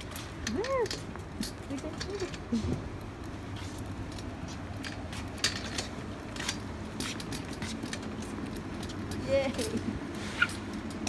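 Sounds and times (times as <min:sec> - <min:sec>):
trolley casters rumbling on tiles: 0:00.0 - 0:11.0.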